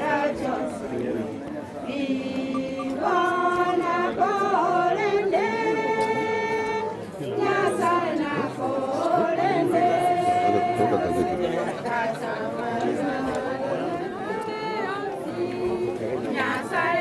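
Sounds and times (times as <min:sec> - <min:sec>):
group singing without accompaniment: 0:00.0 - 0:17.0.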